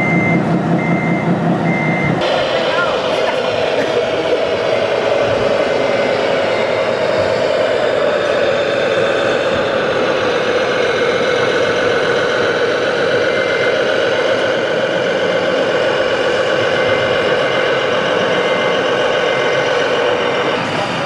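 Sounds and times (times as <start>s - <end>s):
simulated diesel engine running: 0.0s - 21.0s.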